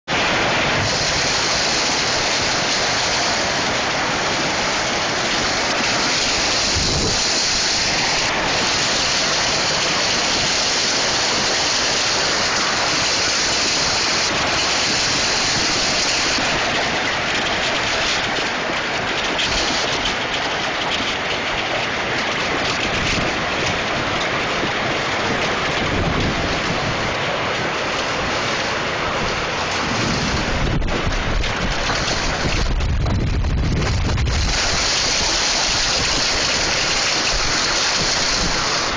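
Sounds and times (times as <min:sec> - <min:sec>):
hail and heavy rain: 0:00.1 - 0:38.9
hailstones striking: 0:00.1 - 0:38.9
wind rumble on microphone: 0:00.2 - 0:38.9.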